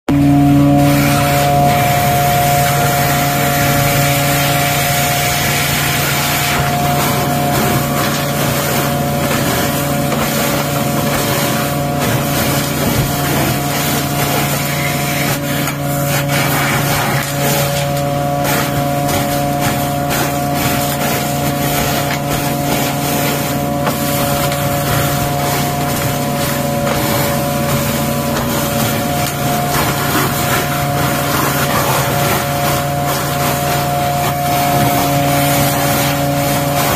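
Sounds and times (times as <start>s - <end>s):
water jetter engine hum: 0.1s - 36.9s
high-pressure water spraying: 0.2s - 36.9s.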